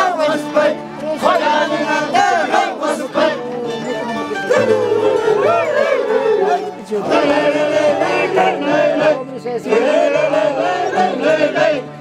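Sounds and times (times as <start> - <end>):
men singing a chant: 0.0 - 12.0.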